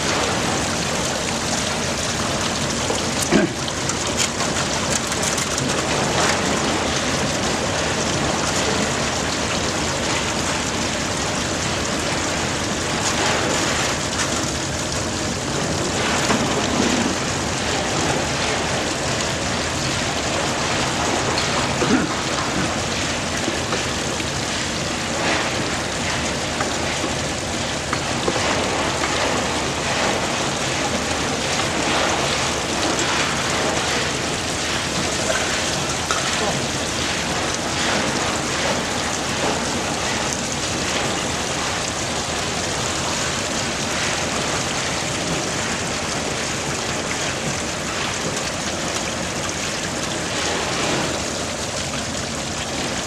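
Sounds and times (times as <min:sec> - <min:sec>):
water and slurry splashing: 0:00.0 - 0:53.0.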